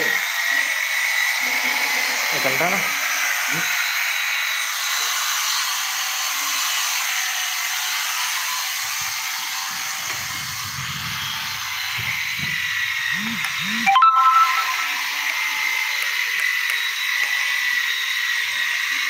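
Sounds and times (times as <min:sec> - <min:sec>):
electric drill whirring: 0:00.0 - 0:13.9, 0:14.9 - 0:19.0.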